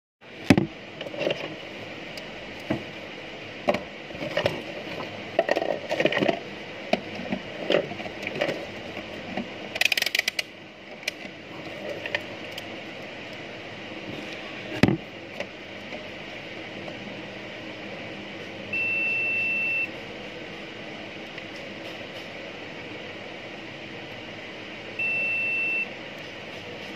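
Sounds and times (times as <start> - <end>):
steady background hum: 0.2 - 26.9.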